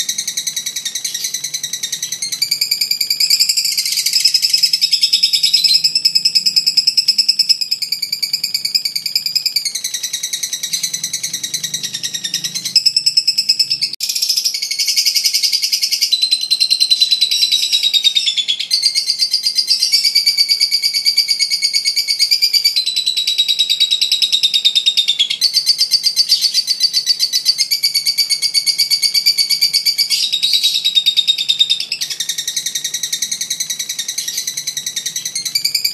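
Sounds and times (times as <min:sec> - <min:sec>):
lovebird chattering song: 0:00.0 - 0:35.9.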